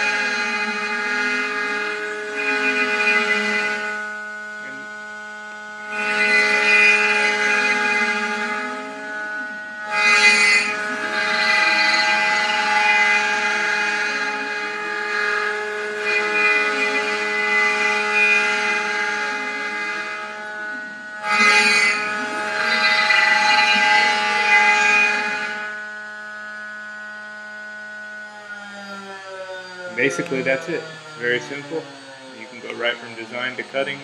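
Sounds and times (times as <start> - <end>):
router bit cutting wood: 0.0 - 34.0
router spindle whining: 0.0 - 34.0.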